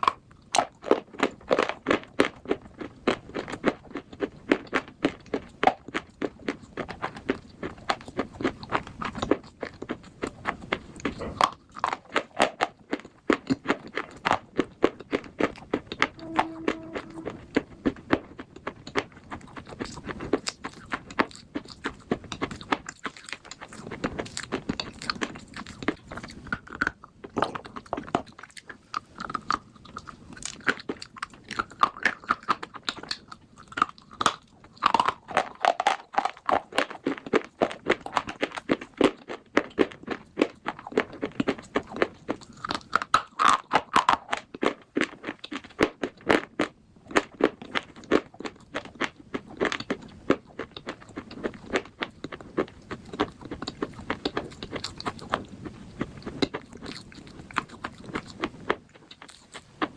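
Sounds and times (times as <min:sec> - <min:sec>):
crisp chewing crunches: 0:00.0 - 0:59.9.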